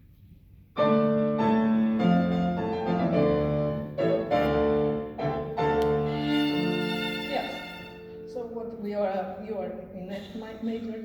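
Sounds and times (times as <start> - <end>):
classical piano chords: 0.7 - 10.0.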